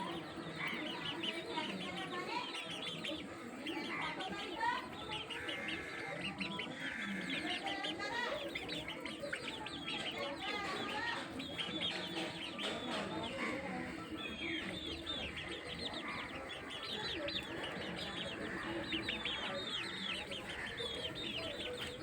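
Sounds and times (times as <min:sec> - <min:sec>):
birds chirping: 0:00.0 - 0:22.0
chickens clucking: 0:00.0 - 0:22.0.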